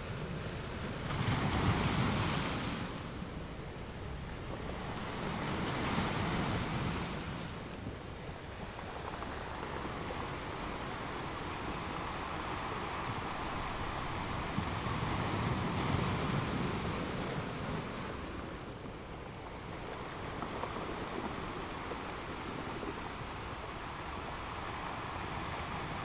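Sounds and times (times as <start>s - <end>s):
sea waves washing in: 0.0s - 26.0s.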